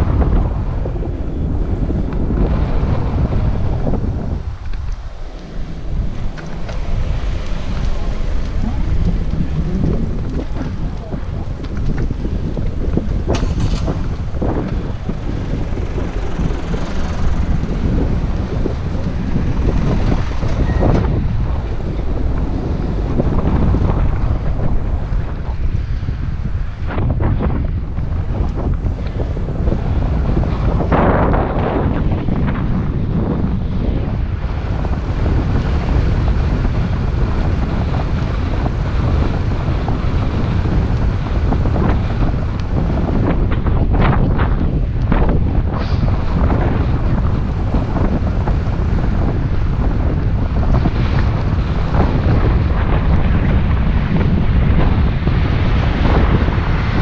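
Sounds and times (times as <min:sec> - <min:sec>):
outdoor background noise: 0:00.0 - 0:57.0
wind buffeting microphone: 0:00.0 - 0:57.0.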